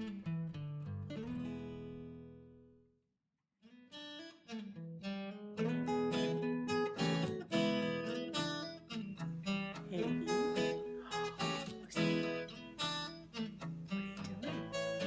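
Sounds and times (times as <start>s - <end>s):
acoustic guitar: 0.0s - 3.0s, 3.6s - 15.0s.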